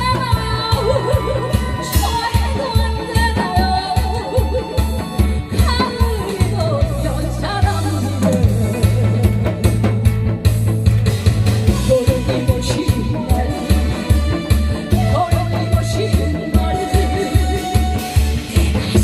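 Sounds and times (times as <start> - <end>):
woman singing: 0.0 - 9.8, 11.7 - 18.2
amplified instrumental accompaniment: 0.0 - 19.0.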